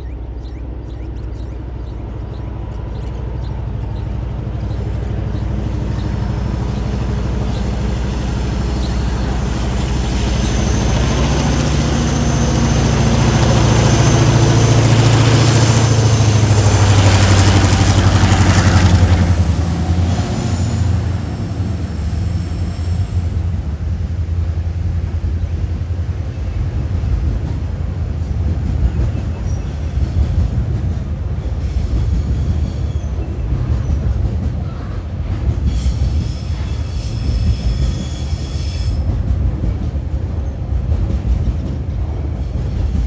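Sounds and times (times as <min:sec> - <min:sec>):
diesel locomotive engine drone: 0:00.0 - 0:43.0
wagons rumbling on rails: 0:00.0 - 0:43.0.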